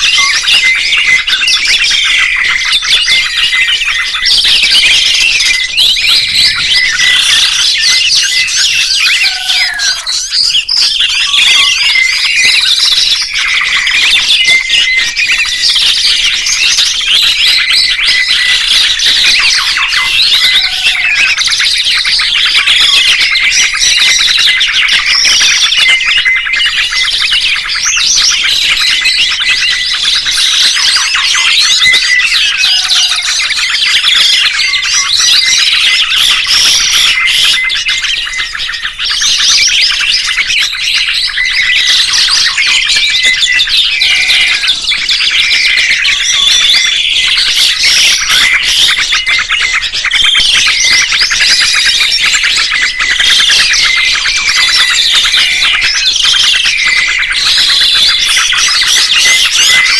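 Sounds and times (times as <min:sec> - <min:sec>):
songbird twittering: 0:00.0 - 0:59.9.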